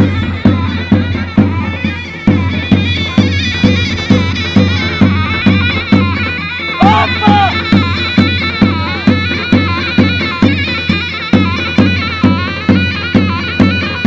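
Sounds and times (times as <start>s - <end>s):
shrill reedy pipe melody: 0.0s - 14.0s
steady drum beats: 0.0s - 14.0s.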